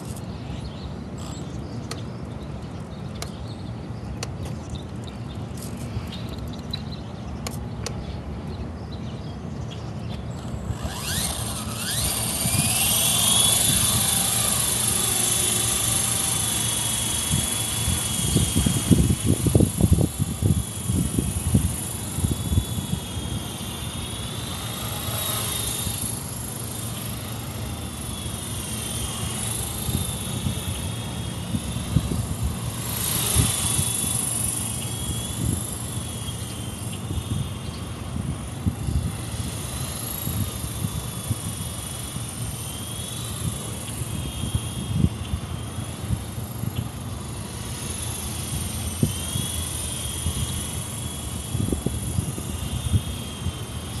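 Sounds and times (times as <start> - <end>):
toy helicopter rotor whine: 0.0 - 54.0.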